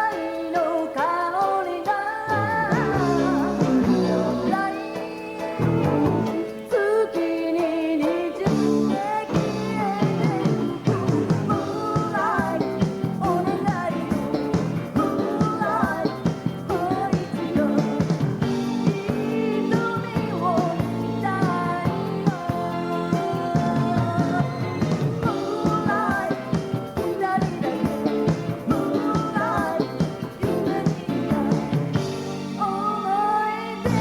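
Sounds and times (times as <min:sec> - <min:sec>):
pop-rock band with guitar: 0:00.0 - 0:34.0
woman singing: 0:00.0 - 0:34.0.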